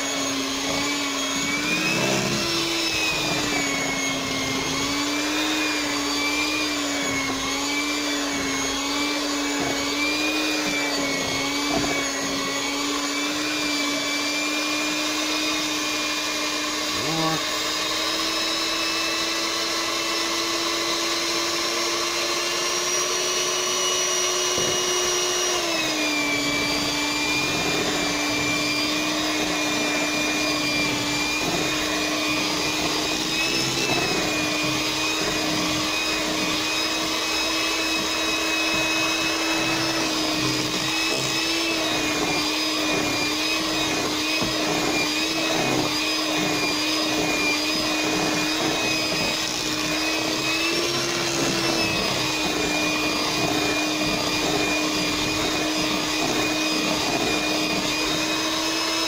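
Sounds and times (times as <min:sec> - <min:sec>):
electric mixer motor whine: 0:00.0 - 0:59.0.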